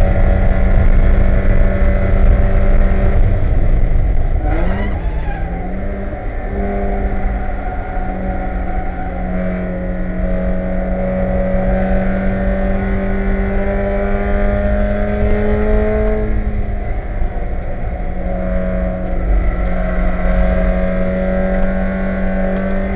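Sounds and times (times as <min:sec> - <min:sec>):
race car engine from cockpit: 0:00.0 - 0:22.9
road and wind rumble: 0:00.0 - 0:22.9.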